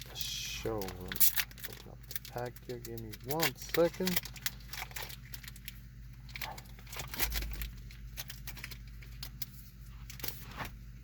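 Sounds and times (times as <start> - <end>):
foil wrapper crinkling and tearing: 0.0 - 10.7.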